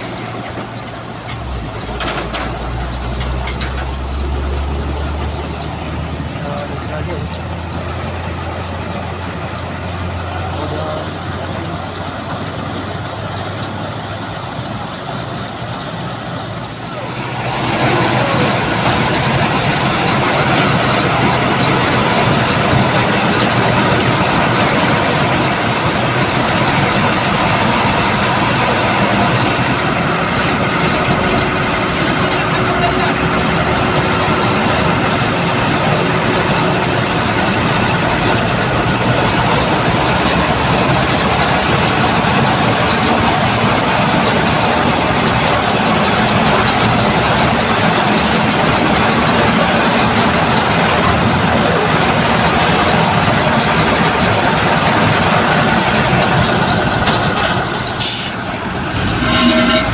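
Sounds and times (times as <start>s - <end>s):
heavy truck engine droning: 0.0s - 59.9s.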